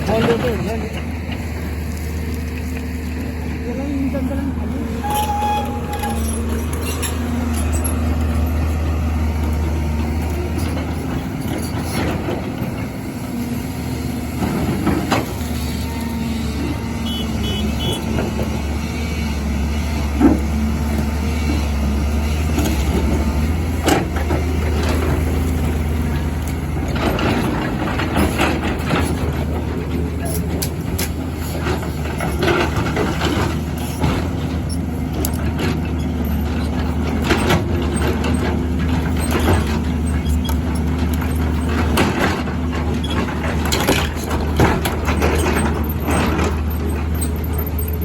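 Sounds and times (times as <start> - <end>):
excavator diesel engine rumbling: 0.0 - 48.0.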